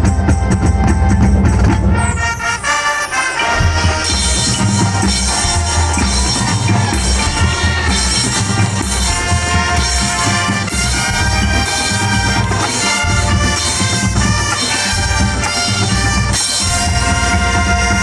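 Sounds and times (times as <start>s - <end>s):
brass and woodwind chords: 1.8s - 18.0s
drum and bass hits: 3.4s - 18.0s.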